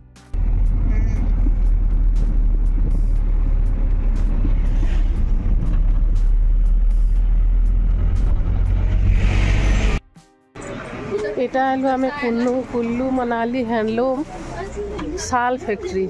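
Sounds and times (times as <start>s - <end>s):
vehicle engine and road noise: 0.2s - 16.0s.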